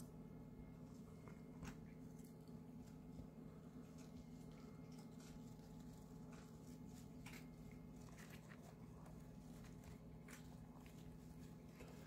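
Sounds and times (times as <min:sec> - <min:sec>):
low steady hum: 0:00.0 - 0:12.0
hamster nibbling: 0:00.7 - 0:12.0.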